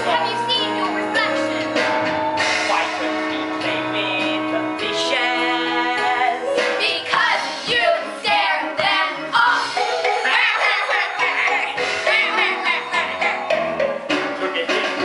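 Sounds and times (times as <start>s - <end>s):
instrumental accompaniment: 0.0s - 15.0s
voices singing: 0.0s - 15.0s.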